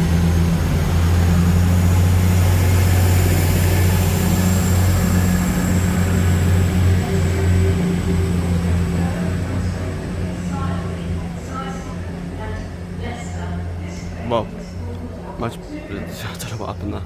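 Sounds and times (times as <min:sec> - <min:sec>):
train diesel engines droning: 0:00.0 - 0:17.0.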